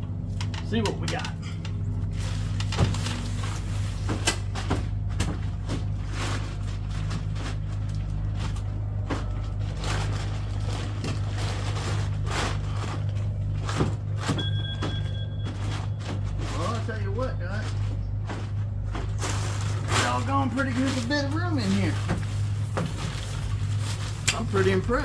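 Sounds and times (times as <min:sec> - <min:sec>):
steady low hum: 0:00.0 - 0:25.0
light knocks and bumps: 0:00.2 - 0:25.0
tent fabric rustling: 0:02.0 - 0:25.0.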